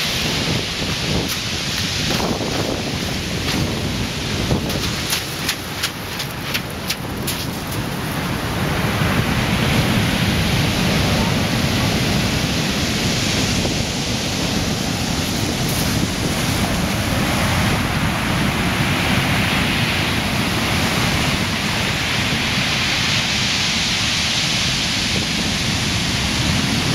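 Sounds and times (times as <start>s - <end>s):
sea surf breaking: 0.0s - 26.9s
wind buffeting microphone: 0.0s - 26.9s.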